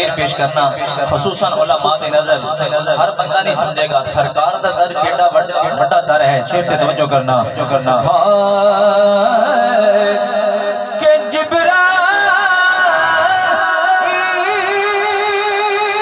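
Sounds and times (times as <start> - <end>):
man singing through loudspeakers: 0.0 - 16.0.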